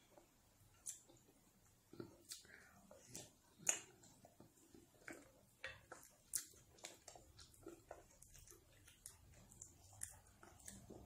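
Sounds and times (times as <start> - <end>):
person chewing: 0.0 - 11.0
wet lip-smacks and mouth clicks: 0.7 - 11.0.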